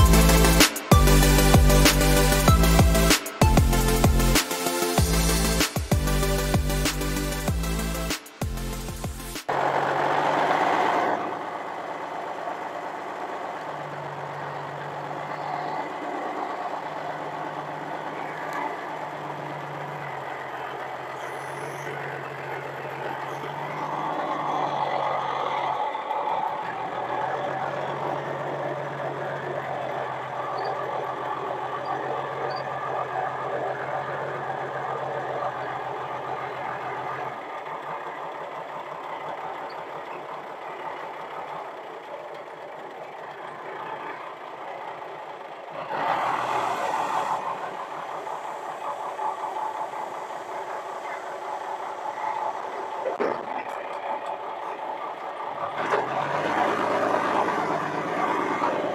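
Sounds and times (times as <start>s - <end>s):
forklift engine running: 0.0s - 58.9s.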